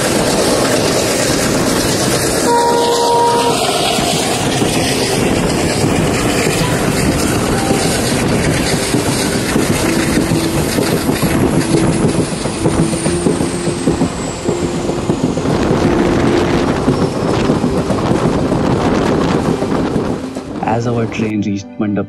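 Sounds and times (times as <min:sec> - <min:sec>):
train wheels clattering: 0:00.0 - 0:20.6.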